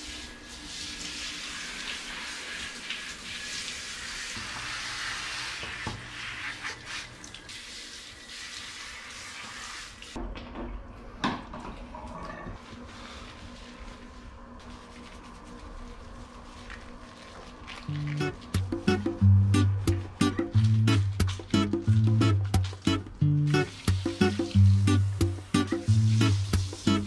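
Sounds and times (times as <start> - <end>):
shower water spraying: 0.0 - 10.2, 13.0 - 27.0.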